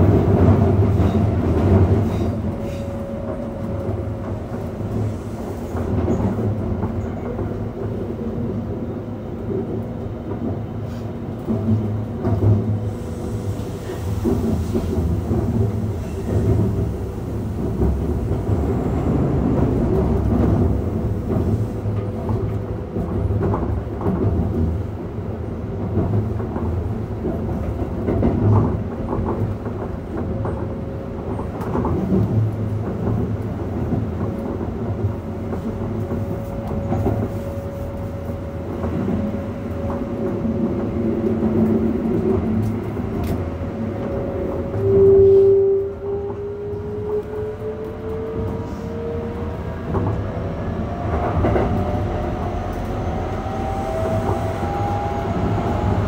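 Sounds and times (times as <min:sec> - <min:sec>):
electric train rumble and whine: 0:00.0 - 0:56.0.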